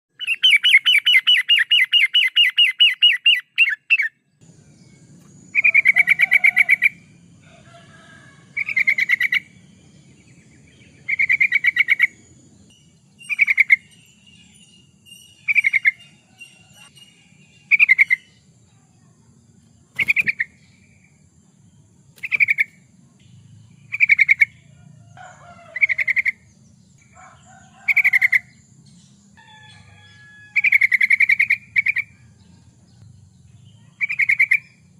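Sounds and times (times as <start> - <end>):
bulbul singing: 0.1 - 7.6, 8.3 - 34.9.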